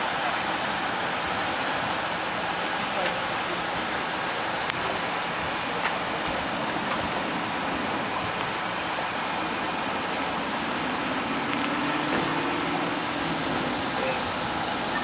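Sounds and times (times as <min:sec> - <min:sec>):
rain: 0:00.0 - 0:15.0
storm wind: 0:00.0 - 0:15.0.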